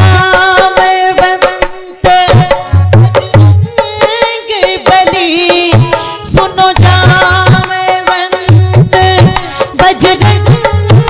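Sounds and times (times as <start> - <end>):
hand drum rhythm: 0.0 - 11.0
woman singing: 0.0 - 11.0.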